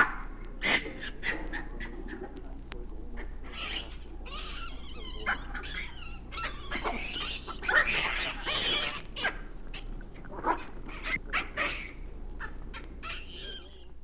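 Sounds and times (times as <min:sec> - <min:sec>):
animal yelps and squawks: 0:00.0 - 0:02.5, 0:03.1 - 0:14.0.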